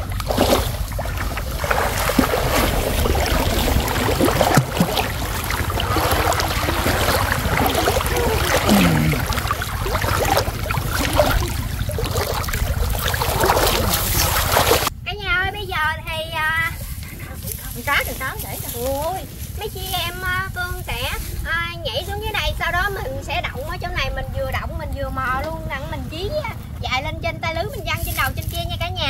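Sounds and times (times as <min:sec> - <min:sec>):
people wading through water: 0:00.0 - 0:14.9, 0:16.4 - 0:28.8.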